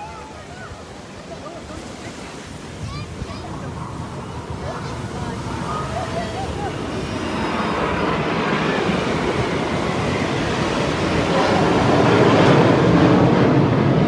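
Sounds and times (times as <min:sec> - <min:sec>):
aircraft engine rush: 0:00.0 - 0:14.0.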